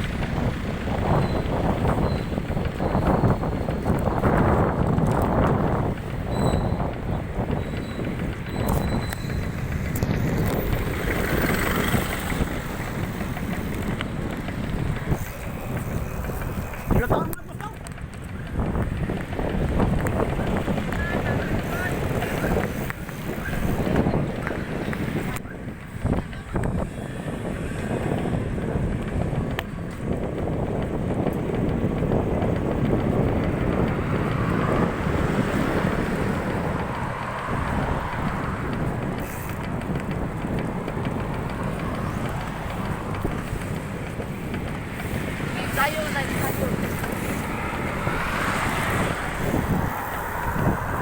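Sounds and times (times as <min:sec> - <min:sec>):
bike clunking clicks: 0:00.0 - 0:51.0
wind rumbling on microphone: 0:00.0 - 0:51.0.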